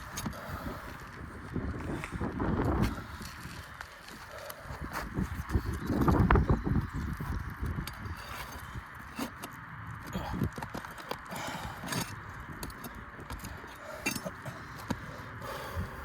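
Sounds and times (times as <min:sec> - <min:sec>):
tapping and scraping on roof shingles: 0:00.0 - 0:15.3.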